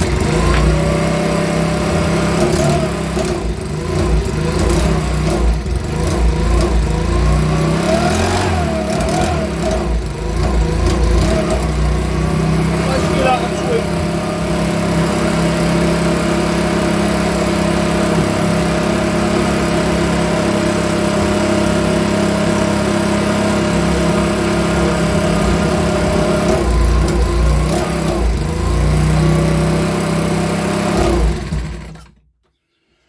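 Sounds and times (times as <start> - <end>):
leaf blower engine running: 0.0 - 32.1.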